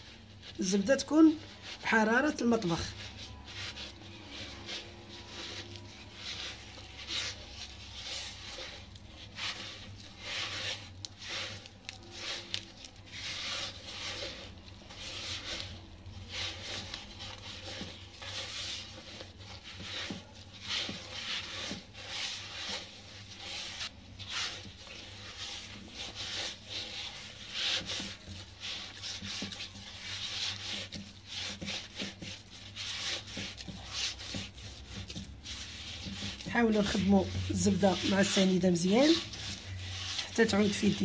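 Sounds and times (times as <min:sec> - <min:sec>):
gritty scraping in a clay dish: 0:00.0 - 0:41.0.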